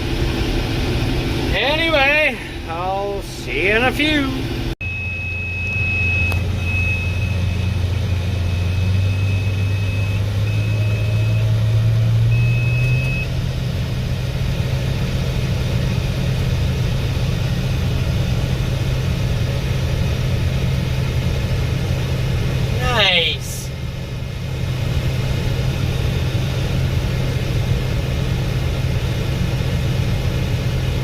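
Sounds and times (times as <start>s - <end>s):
combine harvester engine running: 0.0s - 31.0s.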